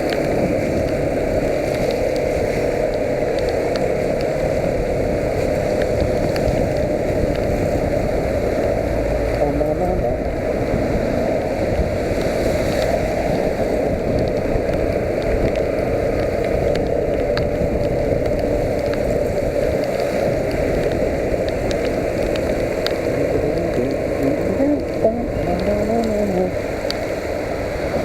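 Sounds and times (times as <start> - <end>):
rain rumble: 0.0 - 28.0
raindrop ticks: 0.0 - 28.0.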